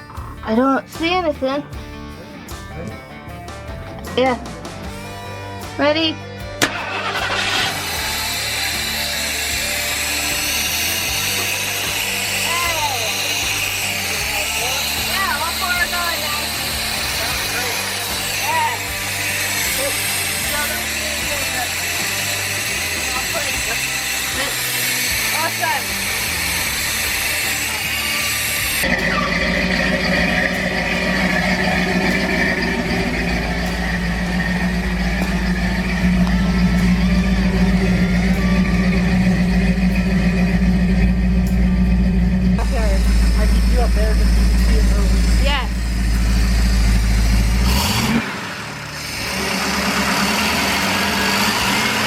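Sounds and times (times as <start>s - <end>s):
pickup truck engine running: 0.0s - 52.0s.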